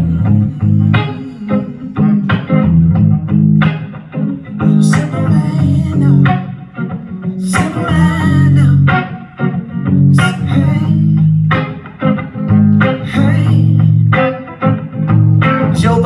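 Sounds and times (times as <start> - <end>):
guitar chords with deep bass: 0.0 - 16.0.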